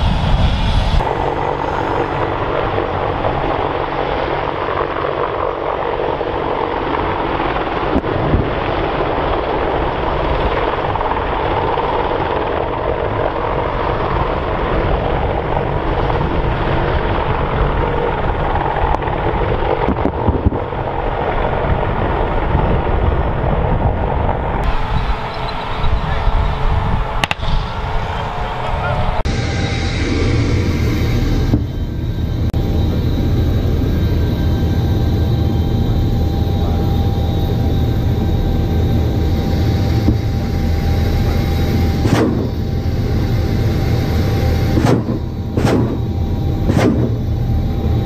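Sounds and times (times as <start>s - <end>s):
helicopter rotors beating: 0.0s - 48.0s.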